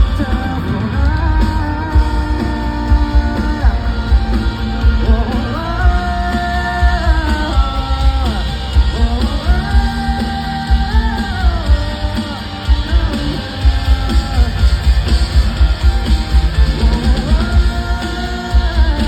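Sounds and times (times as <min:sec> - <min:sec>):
person singing long notes: 0:00.0 - 0:15.8, 0:16.5 - 0:19.0
guitars: 0:00.0 - 0:19.0
pounding bass and kick drum: 0:00.0 - 0:19.0.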